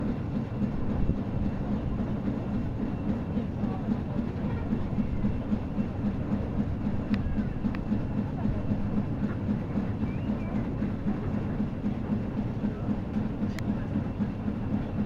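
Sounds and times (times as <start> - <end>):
steam engine rhythmic beat: 0.0 - 15.0.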